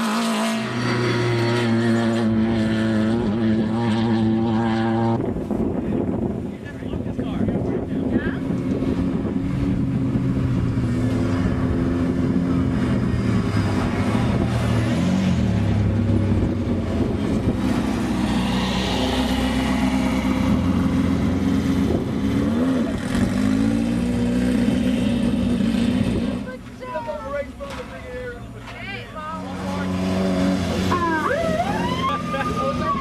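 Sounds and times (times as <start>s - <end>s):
race vehicle engine revving: 0.0s - 33.0s.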